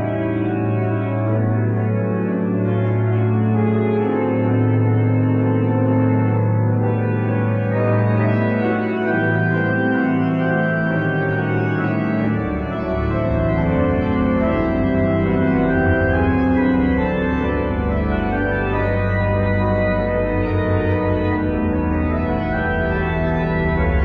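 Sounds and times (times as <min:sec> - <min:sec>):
deep organ pedal notes: 0:00.0 - 0:24.0
pipe organ playing sustained chords: 0:00.0 - 0:24.0.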